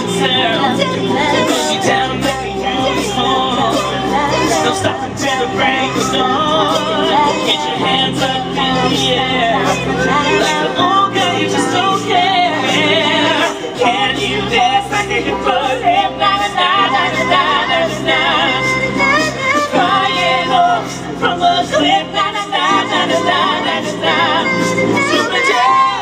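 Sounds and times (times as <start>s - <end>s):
choir singing in harmony: 0.0s - 26.0s
low sung bass line: 0.0s - 26.0s.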